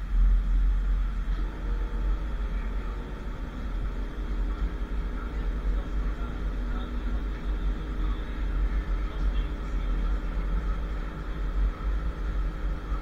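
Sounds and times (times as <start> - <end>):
tram rumbling along tracks: 0.0 - 13.0.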